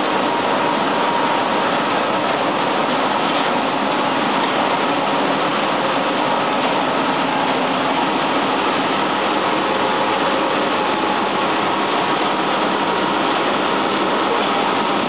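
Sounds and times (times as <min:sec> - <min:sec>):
processing machinery running: 0:00.0 - 0:15.0.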